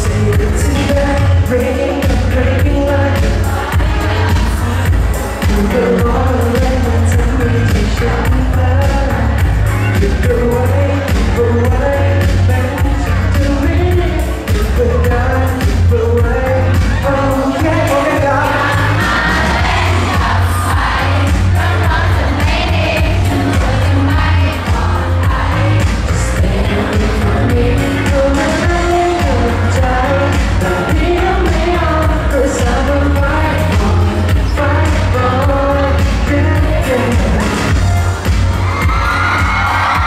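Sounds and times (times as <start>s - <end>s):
man singing into microphone: 0.0s - 22.4s, 23.0s - 37.9s
pop backing track with heavy bass: 0.0s - 40.0s.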